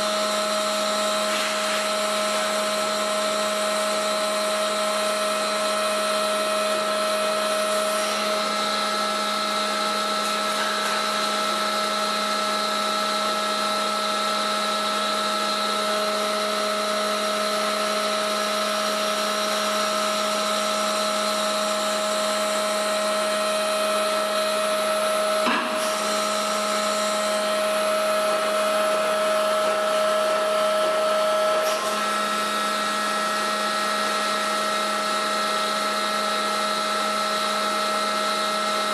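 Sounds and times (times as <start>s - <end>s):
welding machine hum: 0.0s - 38.9s.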